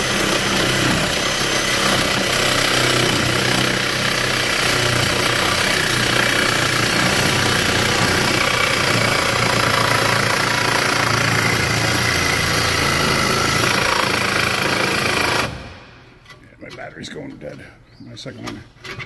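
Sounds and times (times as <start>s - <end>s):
reciprocating saw cutting pipe: 0.0s - 15.9s.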